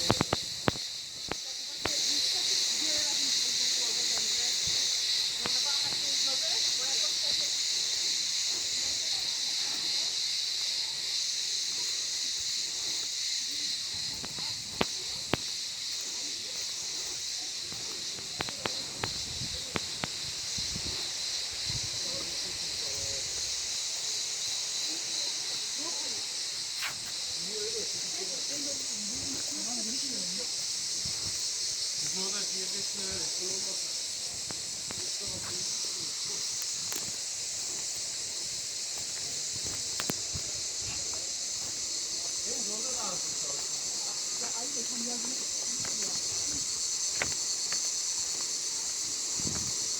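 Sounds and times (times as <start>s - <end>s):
cicada chorus hissing: 0.0s - 49.9s.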